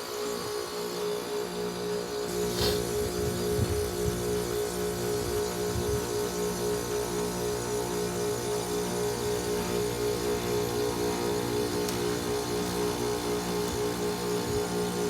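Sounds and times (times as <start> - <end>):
heat pump compressor humming: 0.0 - 15.0.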